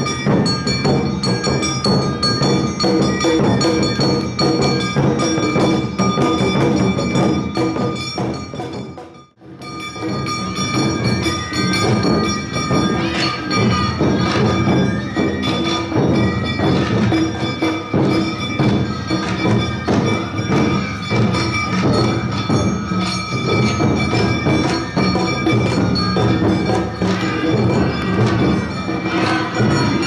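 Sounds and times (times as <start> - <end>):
drums beating steady rhythm: 0.0 - 30.0
metallic bell-like ringing: 0.0 - 30.0.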